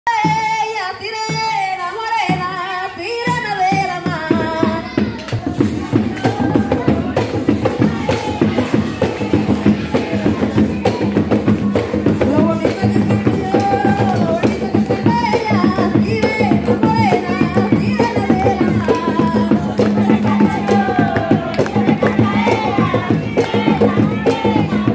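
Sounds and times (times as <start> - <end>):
person singing: 0.1 - 24.9
hand drums fast rhythm: 3.2 - 24.9.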